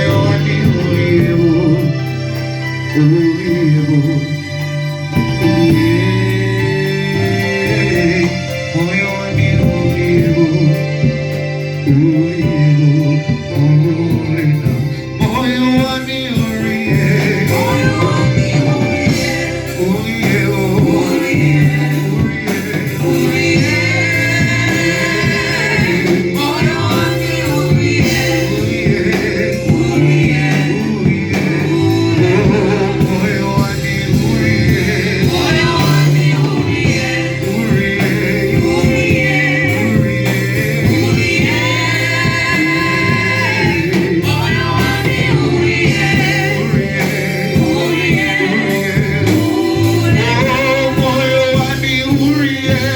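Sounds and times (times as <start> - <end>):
instrumental accompaniment: 0.0 - 52.9
voices singing: 0.0 - 52.9.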